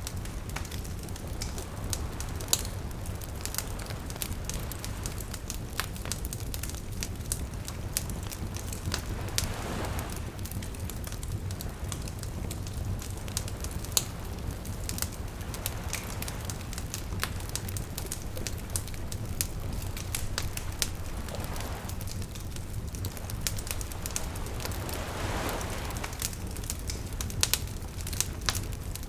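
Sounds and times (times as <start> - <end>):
wood fire crackling and popping: 0.0 - 29.0
small waves lapping: 0.1 - 29.0.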